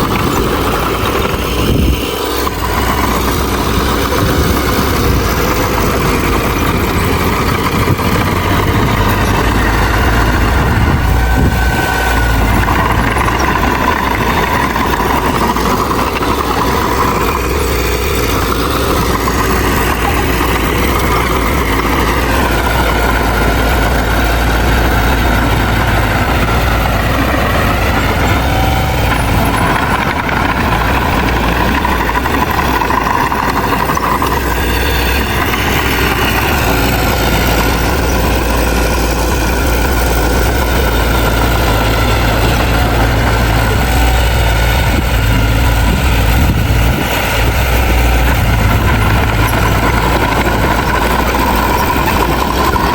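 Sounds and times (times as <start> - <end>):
engine whine: 0.0 - 52.9
heavy diesel engine running: 0.0 - 52.9.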